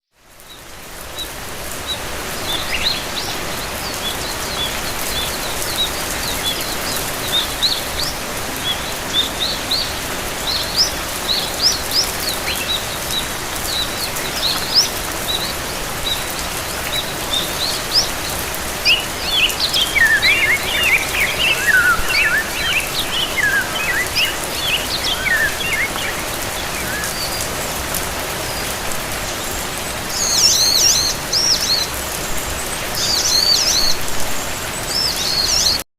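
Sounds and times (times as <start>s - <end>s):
gentle rain hissing: 0.2s - 35.8s
small birds chirping: 0.4s - 35.8s.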